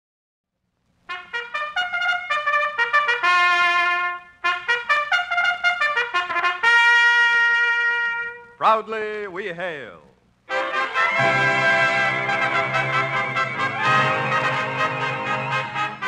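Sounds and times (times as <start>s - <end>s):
solo brass horn fanfare: 1.1s - 8.6s, 10.5s - 16.0s.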